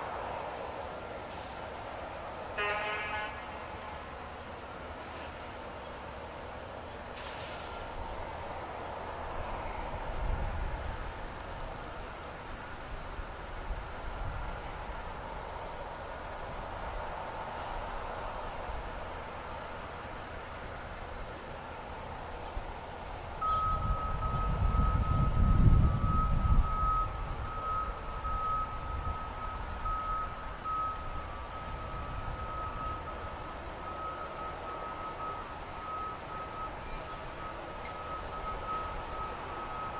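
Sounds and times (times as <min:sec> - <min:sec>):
crickets and insects trilling: 0:00.0 - 0:39.9
diesel locomotive rumble: 0:00.0 - 0:39.9.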